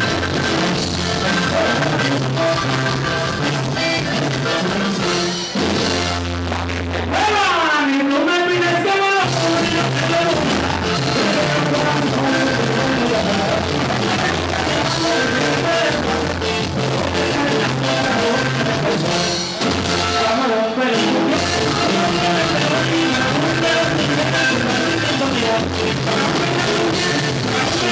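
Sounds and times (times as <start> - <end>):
man singing into a microphone: 0.0 - 5.6, 7.0 - 27.9
accordion: 0.0 - 7.2, 8.2 - 27.9
guitar: 0.0 - 27.9
steady bass line: 0.0 - 27.9.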